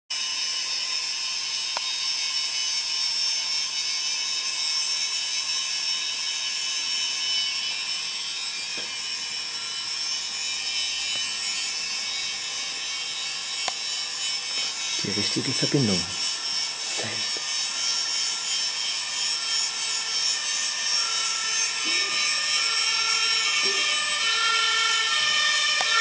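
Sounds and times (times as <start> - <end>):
small motor whirring and hissing: 0.1 - 26.0.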